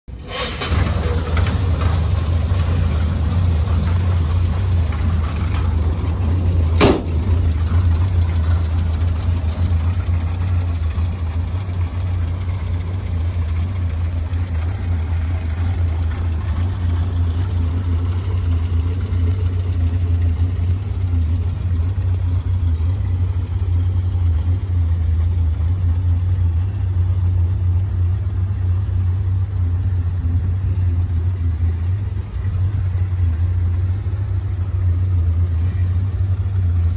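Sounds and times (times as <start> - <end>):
van engine idling: 0.1 - 36.9.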